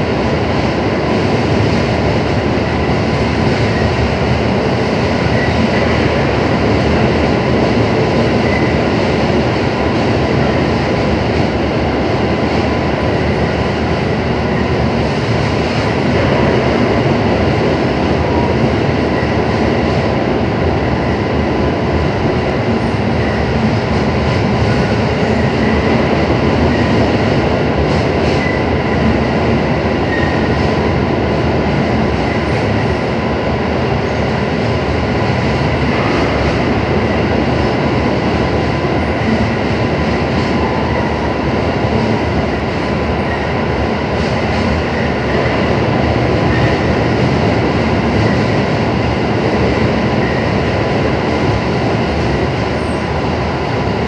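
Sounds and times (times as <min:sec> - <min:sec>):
train wheels rumbling in tunnel: 0:00.0 - 0:54.0.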